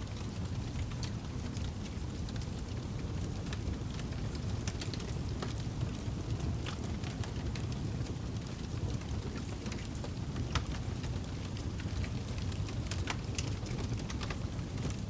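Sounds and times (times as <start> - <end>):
wood crackling and popping: 0.1 - 15.0
fire flames rumbling: 0.2 - 15.0.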